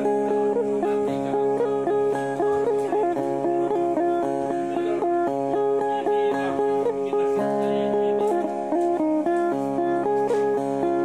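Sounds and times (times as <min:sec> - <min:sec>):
plucked lute melody: 0:00.0 - 0:11.0.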